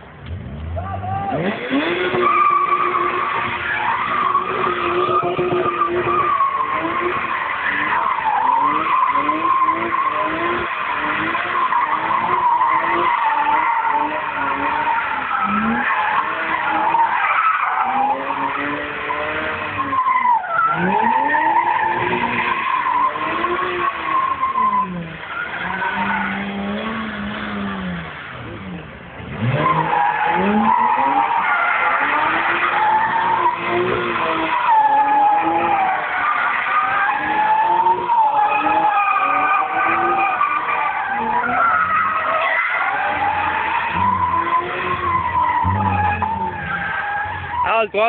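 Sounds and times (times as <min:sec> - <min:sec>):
car engine revving: 0:00.0 - 0:48.0
tyres squealing: 0:00.6 - 0:28.3, 0:29.4 - 0:48.0.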